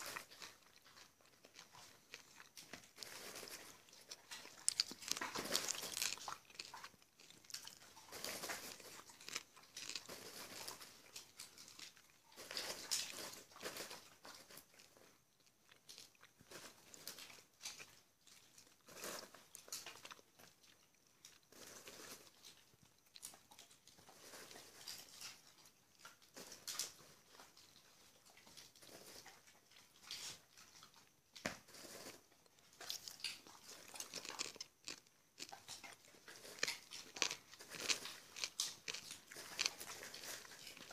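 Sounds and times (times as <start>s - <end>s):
popcorn being chewed: 0.0s - 40.9s.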